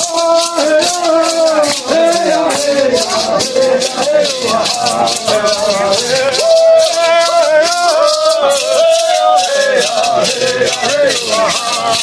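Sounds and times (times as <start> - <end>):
rattles shaken in a steady beat: 0.0 - 12.0
voices singing a chant: 0.0 - 12.0.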